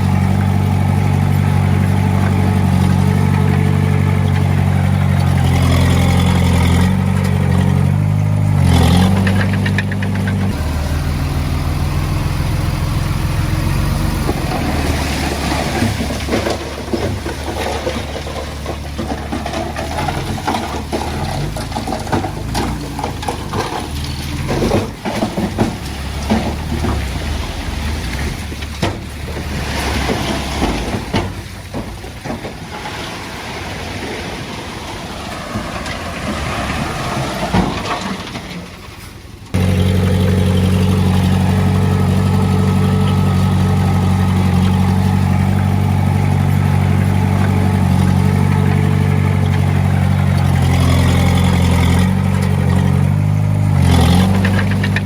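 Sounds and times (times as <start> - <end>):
knocks and rattles: 0.0 - 33.7, 34.9 - 55.0
diesel engine running: 0.0 - 55.0.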